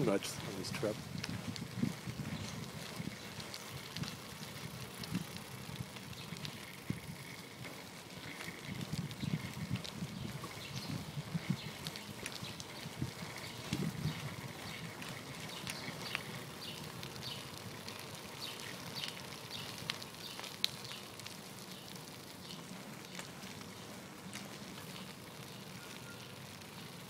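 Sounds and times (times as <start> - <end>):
bicycle clicks and rattles: 0.0 - 27.0
bicycle ride hiss: 0.0 - 27.0.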